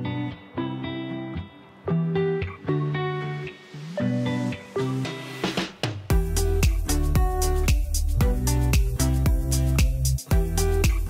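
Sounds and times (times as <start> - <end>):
sustained music chords: 0.0 - 11.0.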